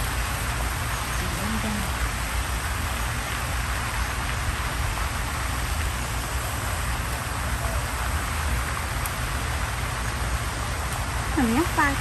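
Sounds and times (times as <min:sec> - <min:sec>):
low uneven rumble: 0:00.0 - 0:12.0
outdoor background hiss: 0:00.0 - 0:12.0.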